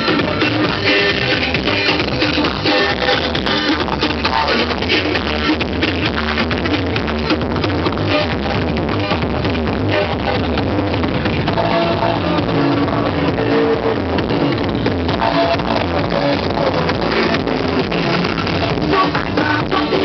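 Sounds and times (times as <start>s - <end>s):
loud music with steady beat: 0.0s - 20.0s.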